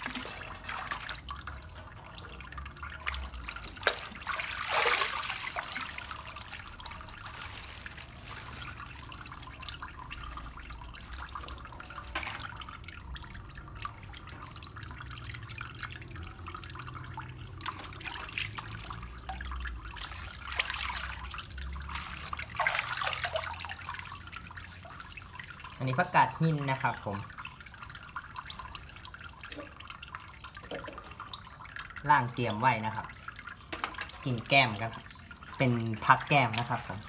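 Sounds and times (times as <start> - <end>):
water dripping and trickling: 0.0 - 37.0
water splashing in a metal sink: 0.0 - 37.0.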